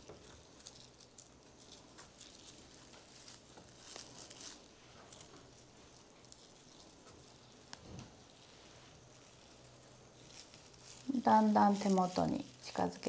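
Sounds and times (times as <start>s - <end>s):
faint steady hum: 0.0s - 13.0s
rustling dried flower stems: 0.0s - 13.0s.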